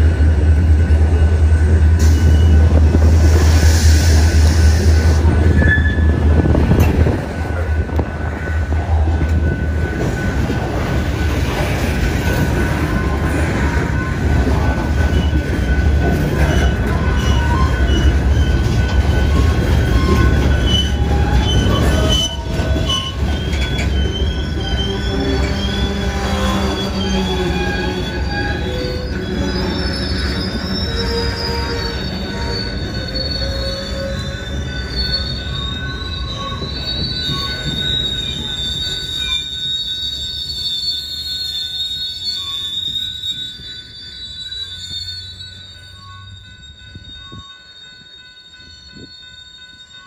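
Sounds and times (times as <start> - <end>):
steel wheels squealing on rails: 0.0 - 50.0
train rumbling past: 0.0 - 50.0.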